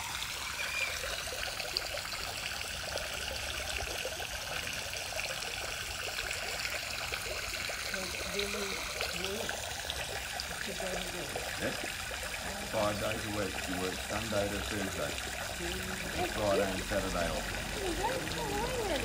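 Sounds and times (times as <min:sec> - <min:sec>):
fountain splashing onto water: 0:00.0 - 0:19.0.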